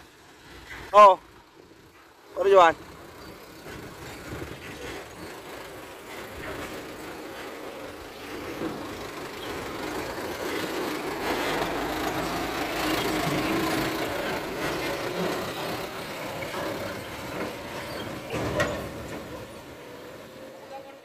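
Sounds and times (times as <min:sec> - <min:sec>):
dump truck driving past: 0:00.0 - 0:21.0.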